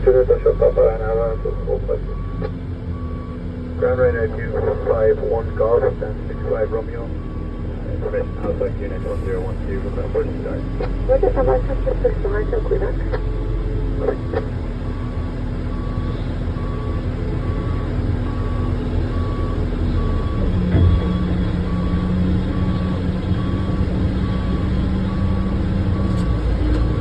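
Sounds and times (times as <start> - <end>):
low engine drone: 0.0 - 27.0
reversing alarm beeping: 0.3 - 27.0.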